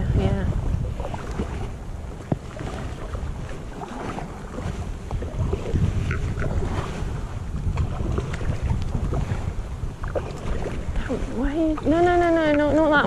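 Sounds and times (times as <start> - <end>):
wind buffeting microphone: 0.0 - 13.0
paddle splashes and drips: 0.5 - 13.0.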